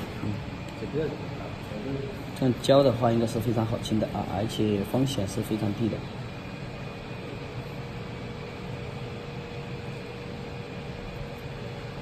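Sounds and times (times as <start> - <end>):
machine hum and hiss: 0.0 - 12.0
thin constant whine: 0.0 - 12.0.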